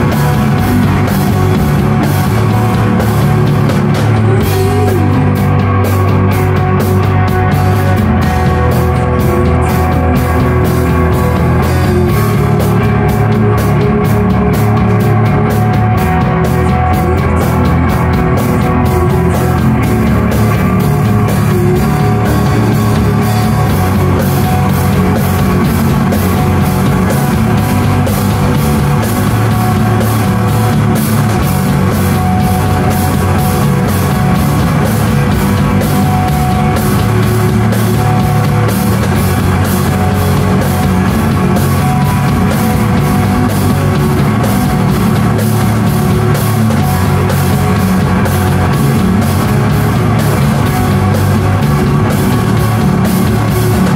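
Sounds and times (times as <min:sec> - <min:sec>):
rock band playing loudly: 0:00.0 - 0:53.9.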